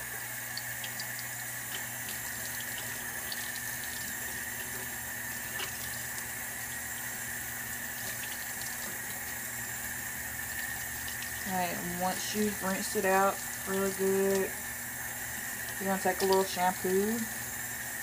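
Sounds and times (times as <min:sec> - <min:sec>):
water splashes and drips: 0:00.0 - 0:17.0
tap water running into sink: 0:00.0 - 0:18.0.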